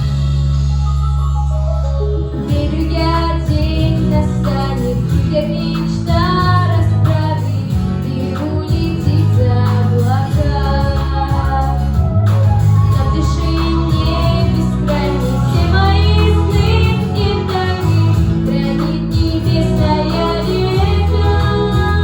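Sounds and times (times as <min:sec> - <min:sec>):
instrumental backing track: 0:00.0 - 0:22.0
young woman singing: 0:02.4 - 0:22.0.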